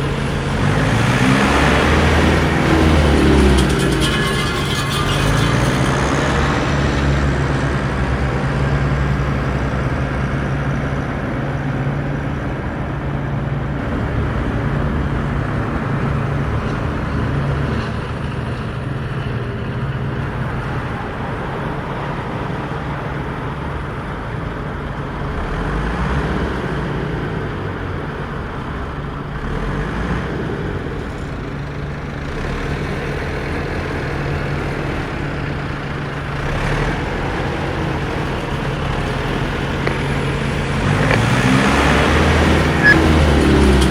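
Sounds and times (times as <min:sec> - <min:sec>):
tyre and road noise: 0:00.0 - 0:43.9
vehicle engine running: 0:00.0 - 0:43.9.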